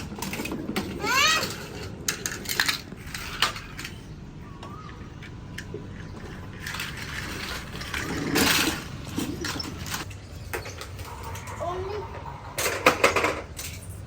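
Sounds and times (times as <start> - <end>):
plastic toy cars clacking: 0.0 - 14.0.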